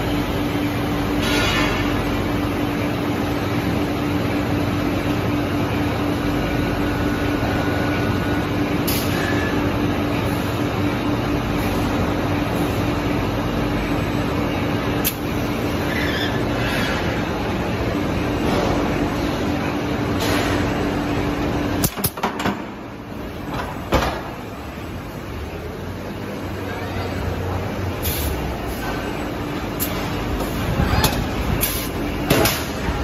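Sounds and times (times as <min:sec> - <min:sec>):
constant low hum: 0:00.0 - 0:33.0.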